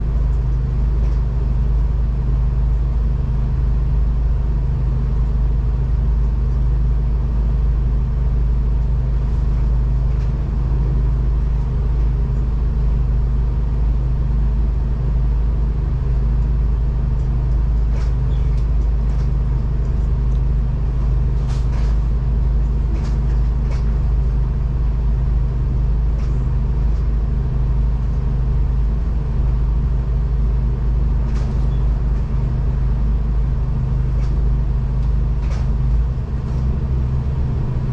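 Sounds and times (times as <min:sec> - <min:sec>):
diesel train running: 0:00.0 - 0:37.9.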